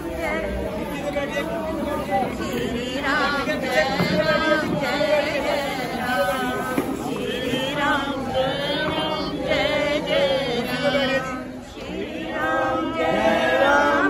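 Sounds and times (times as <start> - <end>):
crowd noise: 0.0 - 14.0
group singing a devotional chant: 0.0 - 14.0.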